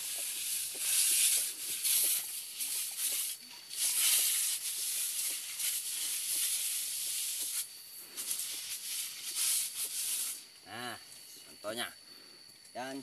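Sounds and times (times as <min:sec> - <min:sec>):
sprayer nozzle hissing: 0:00.0 - 0:10.6.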